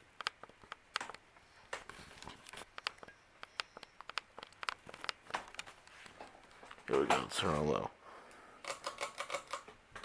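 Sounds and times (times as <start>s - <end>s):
sharp clicks and crackles: 0.0s - 6.8s, 8.6s - 10.0s.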